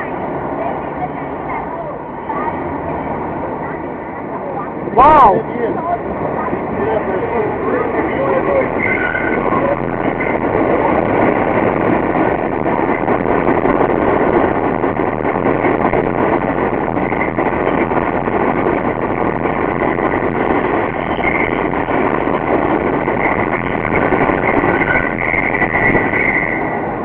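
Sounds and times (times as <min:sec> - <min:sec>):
subway train running past: 0:00.0 - 0:27.0.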